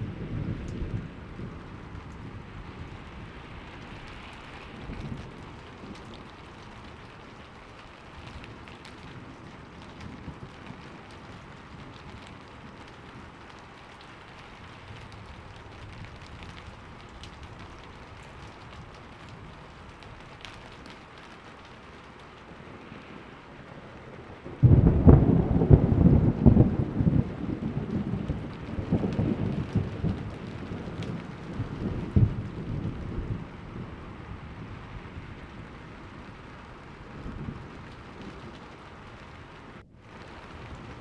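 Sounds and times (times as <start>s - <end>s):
steady rainfall: 0.0s - 41.0s
thunderclap rolling: 0.0s - 41.0s.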